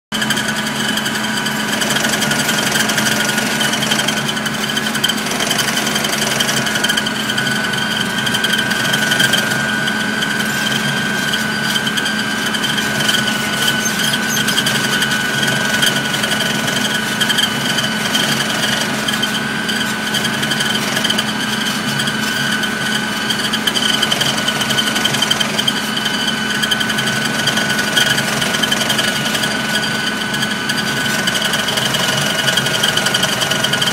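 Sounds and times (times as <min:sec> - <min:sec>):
steady whine: 0:00.2 - 0:33.9
vehicle engine droning: 0:00.2 - 0:33.9.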